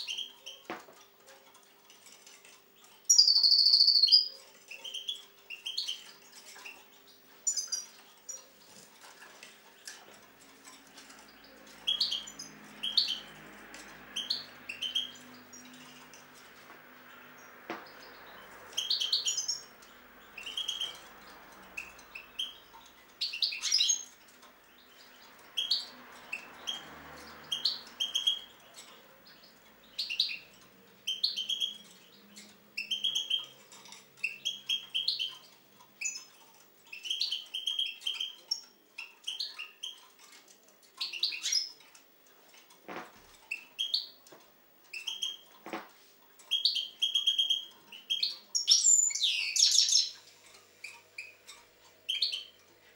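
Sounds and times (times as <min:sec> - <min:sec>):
goldfinch twittering chirps: 0:00.0 - 0:00.7, 0:02.2 - 0:08.8, 0:10.6 - 0:16.4, 0:17.1 - 0:40.2, 0:41.0 - 0:41.8, 0:43.5 - 0:44.2, 0:44.9 - 0:45.5, 0:46.4 - 0:52.6.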